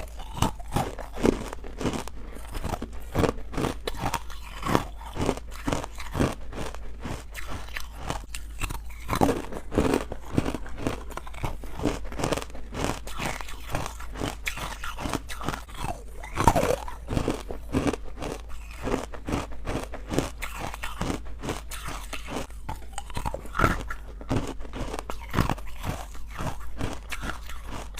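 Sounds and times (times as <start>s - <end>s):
chewing crunchy ice: 0.0s - 27.9s.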